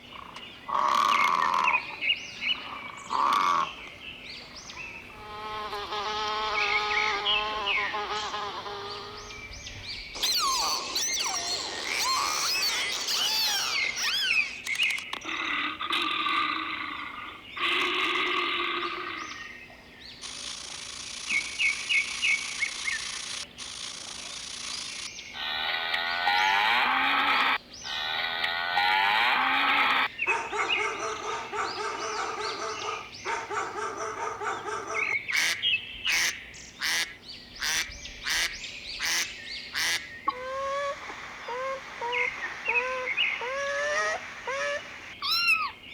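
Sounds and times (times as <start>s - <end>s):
bird chirps: 0.0s - 16.5s, 17.6s - 45.9s
animal calls: 0.0s - 19.6s, 20.2s - 45.9s.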